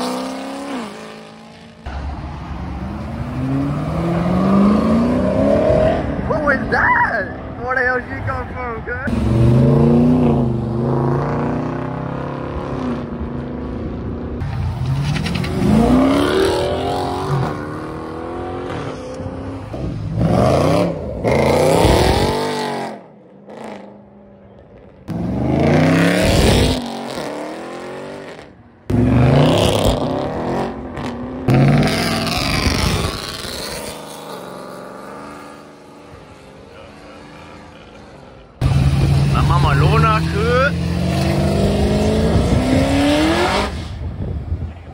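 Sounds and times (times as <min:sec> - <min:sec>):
cars accelerating past: 0:00.0 - 0:06.3, 0:09.1 - 0:23.9, 0:24.6 - 0:44.7.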